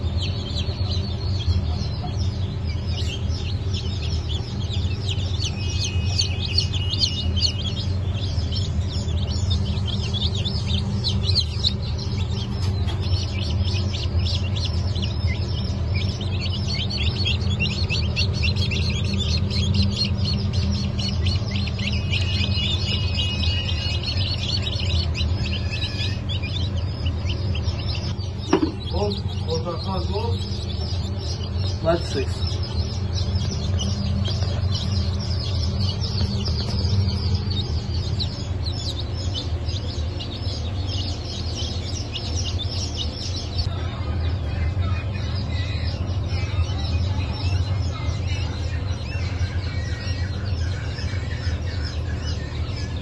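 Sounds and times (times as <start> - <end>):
chicks peeping: 0.0 - 53.0
steady low hum: 0.0 - 53.0.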